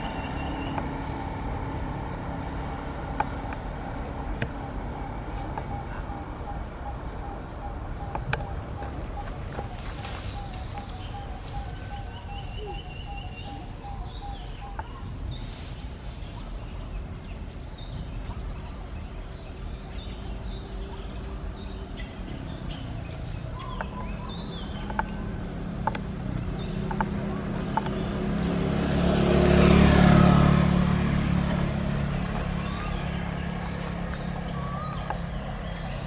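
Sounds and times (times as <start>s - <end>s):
birds chirping and calling: 0.0s - 36.0s
low wind rumble: 0.0s - 36.0s.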